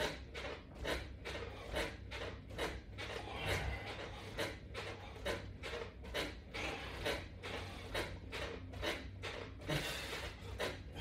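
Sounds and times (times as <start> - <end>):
resistance band pull-down crunch: 0.0 - 11.0.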